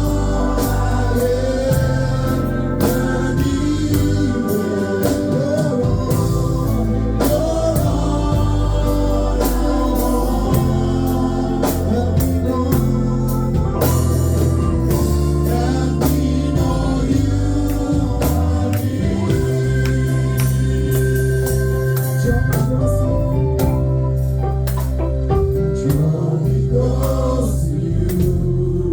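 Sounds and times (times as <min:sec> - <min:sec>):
bass: 0:00.0 - 0:28.9
drums keeping a steady beat: 0:00.0 - 0:28.9
gospel singing: 0:00.0 - 0:28.9
organ: 0:00.0 - 0:28.9.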